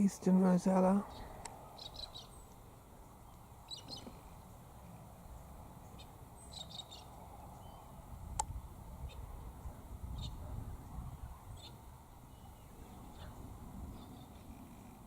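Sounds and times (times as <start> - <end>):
birds chirping: 0.0 - 8.2, 8.9 - 15.0.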